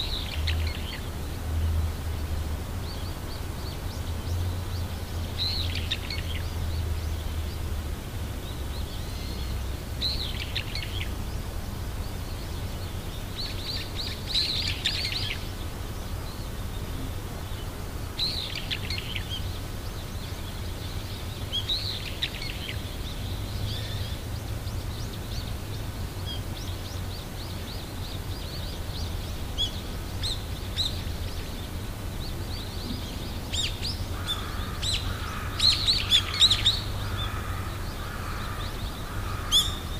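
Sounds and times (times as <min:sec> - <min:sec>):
small songbirds twittering: 0:00.0 - 0:39.9.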